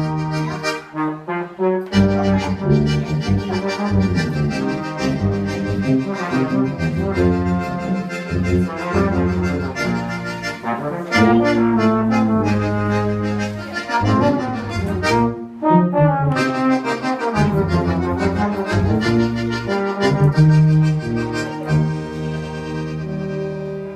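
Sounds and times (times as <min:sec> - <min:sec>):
brass instruments playing melody: 0:00.0 - 0:23.9.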